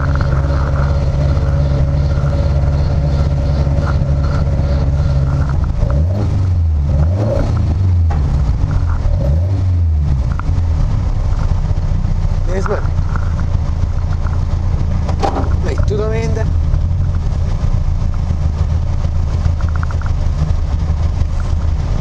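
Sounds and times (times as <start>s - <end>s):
car engine at low revs: 0.0s - 22.0s.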